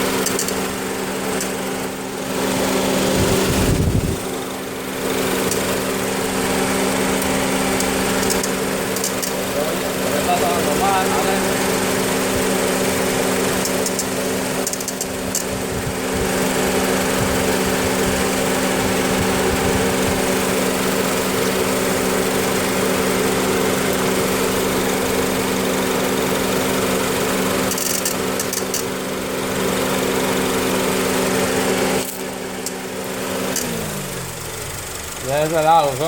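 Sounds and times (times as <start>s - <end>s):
car engine drone: 0.0s - 36.0s.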